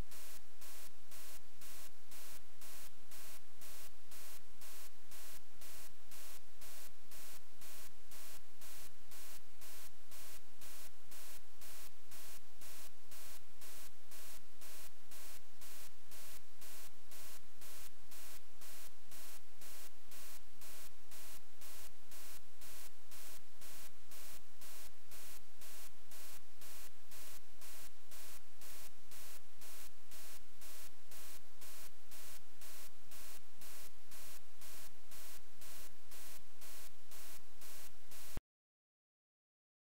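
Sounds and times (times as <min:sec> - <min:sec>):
pulsing electronic static hiss: 0:00.0 - 0:38.4.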